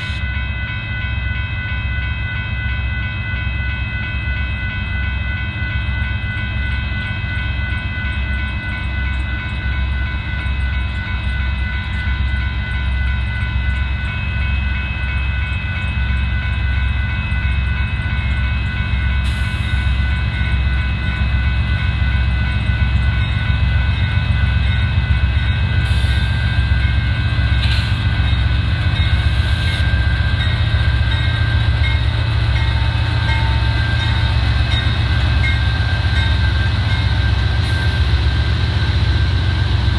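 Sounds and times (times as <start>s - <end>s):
diesel freight train rumble: 0.0s - 39.9s
railroad crossing bells ringing: 0.0s - 39.9s.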